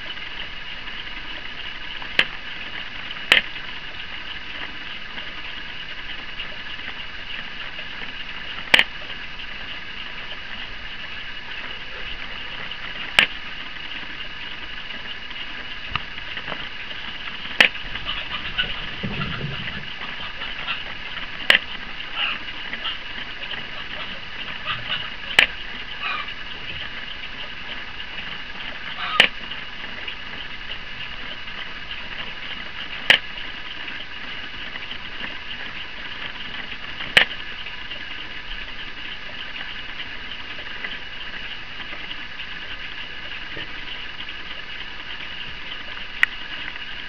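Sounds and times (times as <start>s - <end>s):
toy mechanism whirring: 0.0s - 47.0s.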